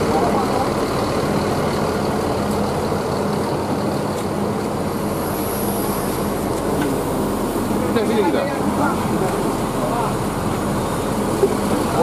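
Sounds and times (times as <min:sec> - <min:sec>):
diesel coach engine idling: 0:00.0 - 0:12.0.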